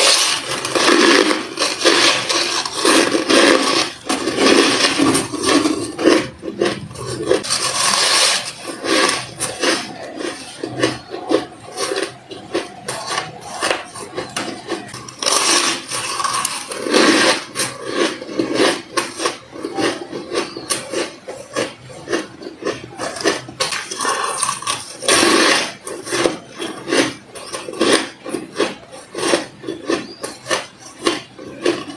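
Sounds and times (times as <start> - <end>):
ice crunching while chewing: 0.0 - 31.9.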